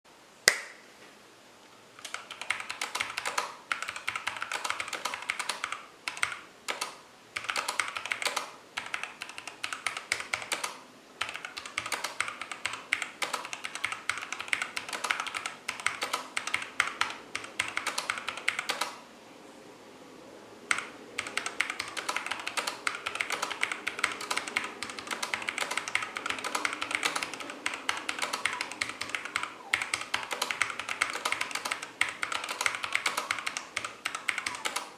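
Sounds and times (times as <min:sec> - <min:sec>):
mechanical keyboard typing: 0:02.0 - 0:19.0, 0:20.7 - 0:34.9.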